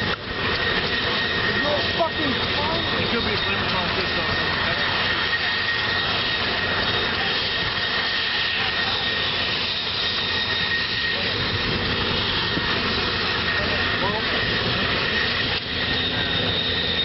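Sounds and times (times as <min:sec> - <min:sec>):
aircraft turbine engine whine: 0:00.0 - 0:17.0.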